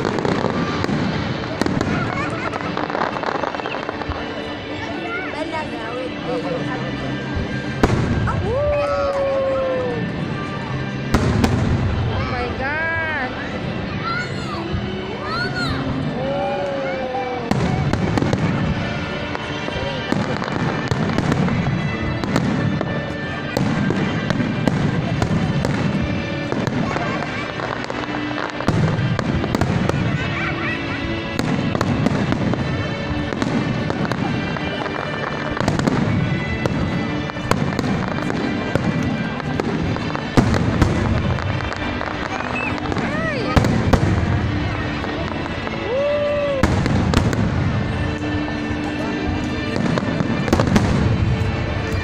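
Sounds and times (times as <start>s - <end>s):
fireworks bangs: 0.0s - 52.0s
music: 0.0s - 52.0s.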